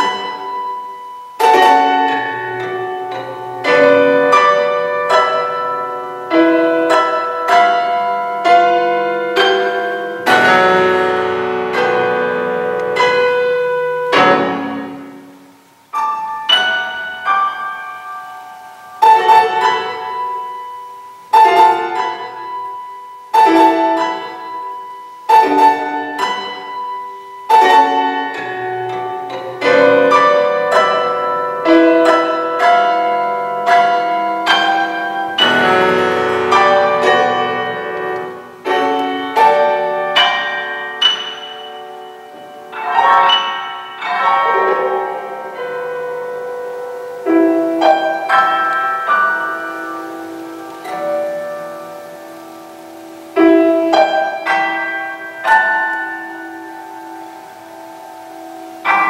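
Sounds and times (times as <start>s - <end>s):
prepared piano notes: 0.0s - 59.0s.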